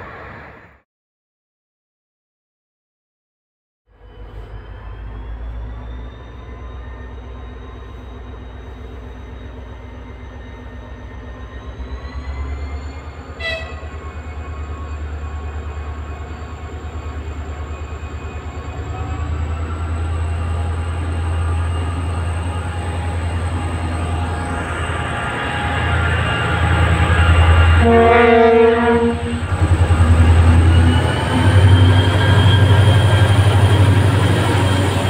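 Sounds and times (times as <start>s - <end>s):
diesel locomotive engine droning: 0.0s - 0.8s, 3.9s - 35.0s.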